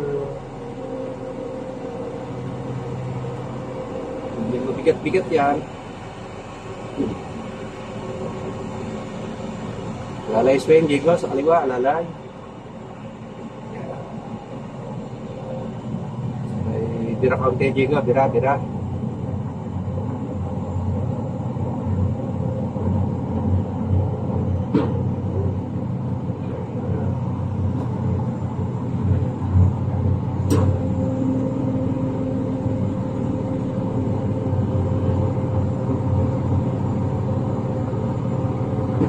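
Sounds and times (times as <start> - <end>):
diesel engine running: 0.0 - 39.0
faint steady whine: 0.0 - 39.0.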